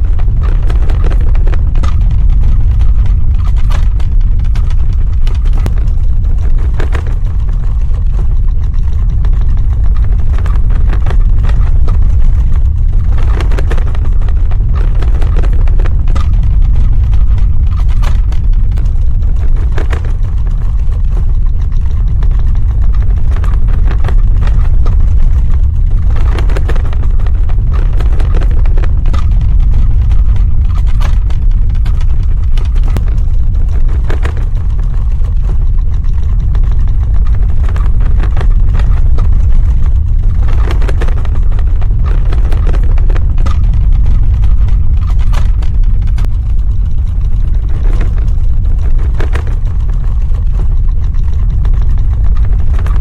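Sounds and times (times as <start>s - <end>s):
crackles and knocks: 0.0s - 53.0s
deep earthquake rumble: 0.0s - 53.0s.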